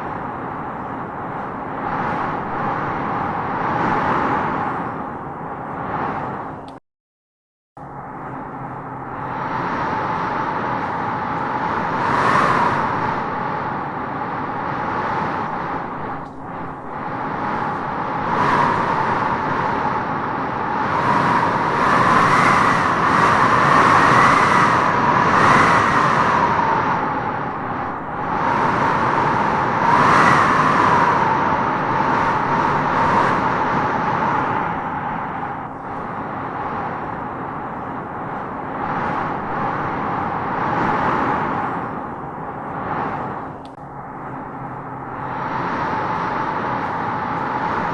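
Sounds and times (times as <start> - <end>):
strong wind gusting: 0.0 - 6.8, 7.8 - 47.9
whistling howl of wind: 0.0 - 6.8, 7.8 - 47.9.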